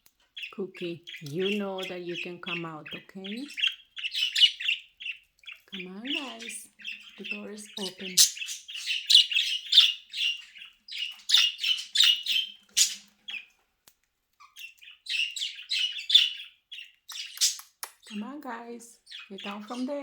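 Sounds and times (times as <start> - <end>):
budgies chattering and chirping: 0.0 - 13.6, 14.3 - 20.0.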